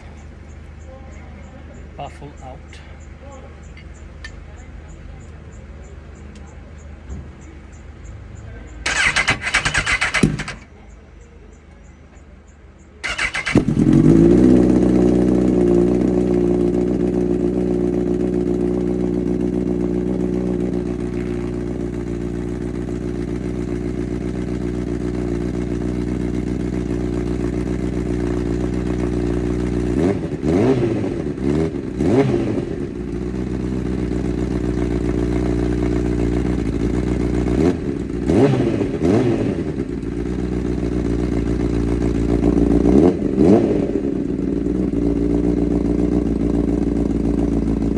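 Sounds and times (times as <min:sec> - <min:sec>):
motorcycle engine idling: 0:00.0 - 0:47.9
motorcycle throttle blips: 0:00.0 - 0:47.9.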